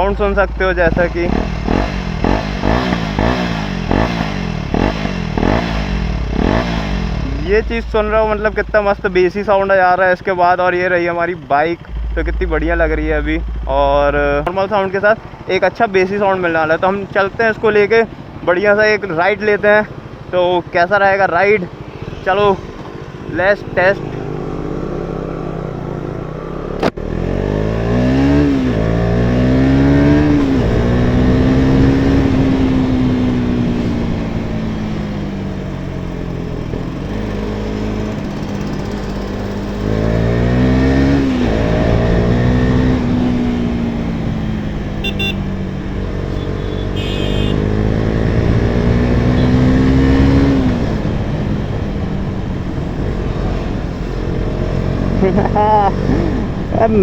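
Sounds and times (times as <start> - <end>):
motorcycle engine revving: 0.0 - 18.5, 21.6 - 57.0.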